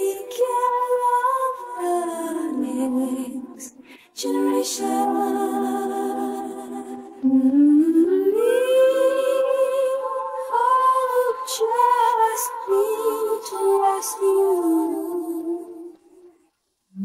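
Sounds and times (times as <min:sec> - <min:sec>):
woman singing a cappella: 0:00.0 - 0:16.3.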